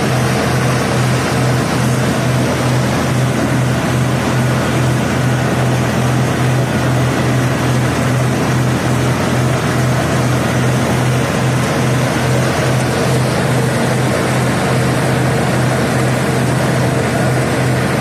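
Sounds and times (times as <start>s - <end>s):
combine harvester machinery noise: 0.0s - 18.0s
tractor diesel engine running: 0.0s - 18.0s.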